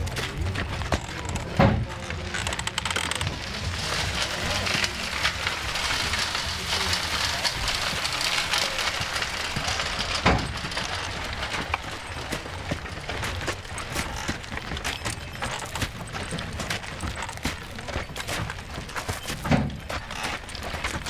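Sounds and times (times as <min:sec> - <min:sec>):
clicks and knocks of mill: 0:00.0 - 0:21.0.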